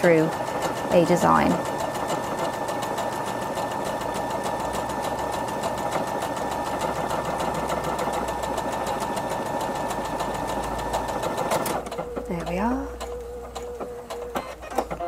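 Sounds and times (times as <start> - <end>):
sewing machine running: 0.0 - 15.0.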